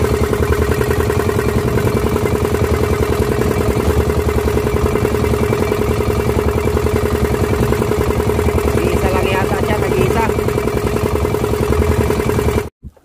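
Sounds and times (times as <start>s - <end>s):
boat engine pulsing: 0.0s - 12.7s.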